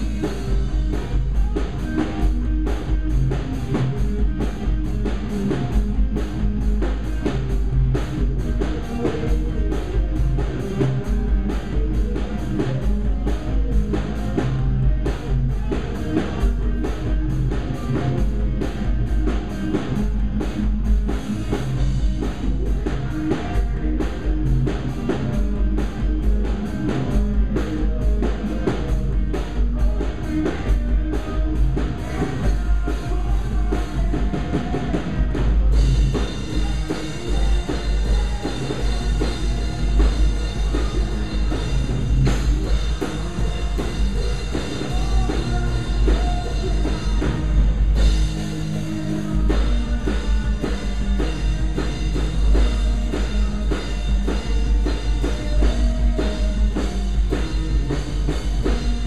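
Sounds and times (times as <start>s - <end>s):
fast dense drumming: 0.0s - 59.0s
rock band playing live: 0.0s - 59.0s.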